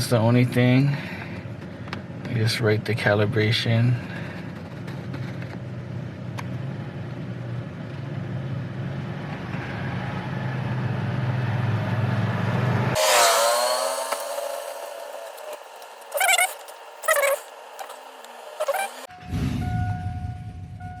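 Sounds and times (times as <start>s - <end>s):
pickup truck engine: 0.0s - 21.0s
road noise: 0.0s - 21.0s.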